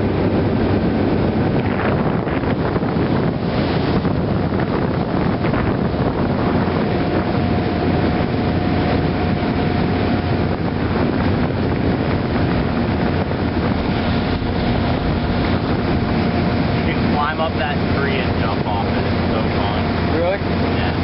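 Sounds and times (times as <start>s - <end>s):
motorboat engine running: 0.0s - 21.0s
wind buffeting the microphone: 0.0s - 21.0s.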